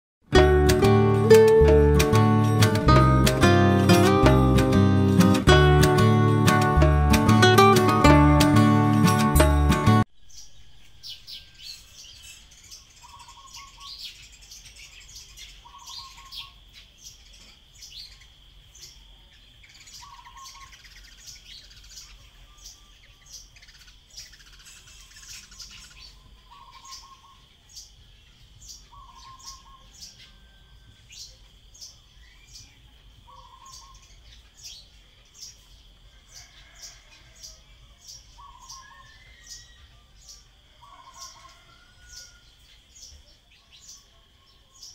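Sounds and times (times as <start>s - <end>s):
bird chirping: 0.3s - 44.9s.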